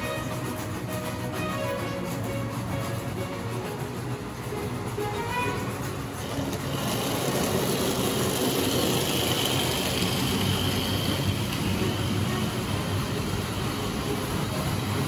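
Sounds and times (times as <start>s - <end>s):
model train wheels rumbling: 0.0s - 15.0s
faint motor whine: 2.2s - 15.0s.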